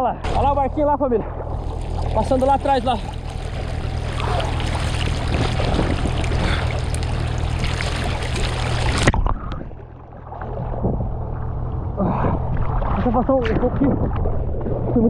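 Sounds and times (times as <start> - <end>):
steady low hum: 0.0 - 15.0
water sloshing and splashing: 0.2 - 15.0.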